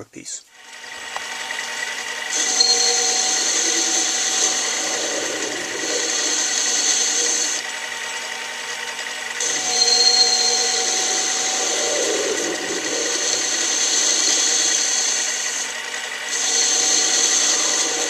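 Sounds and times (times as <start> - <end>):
lathe motor whine: 0.6 - 18.0
lathe cutting hiss: 1.0 - 18.0.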